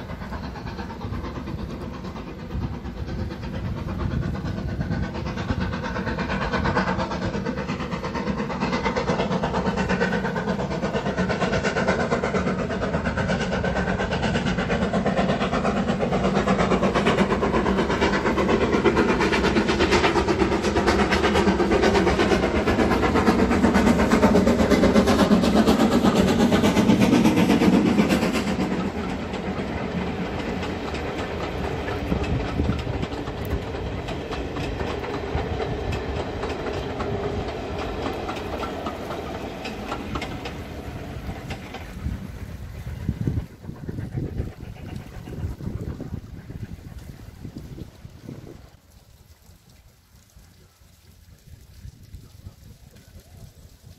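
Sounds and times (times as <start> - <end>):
steam locomotive passing: 0.0 - 53.9
train wheels rolling on rails: 0.0 - 53.9.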